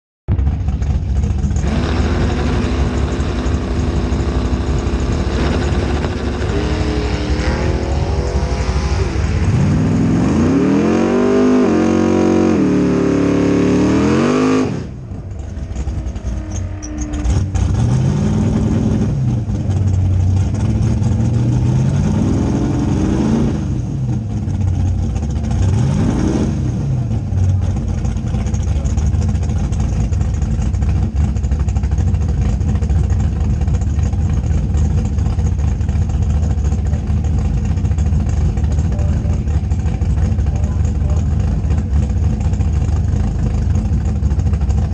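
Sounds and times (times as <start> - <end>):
drag car engine revving and idling: 0.3 - 44.9.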